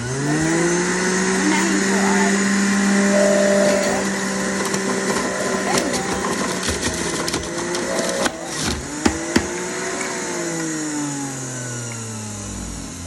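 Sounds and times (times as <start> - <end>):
electric juicer motor running: 0.0 - 3.3, 4.2 - 13.0.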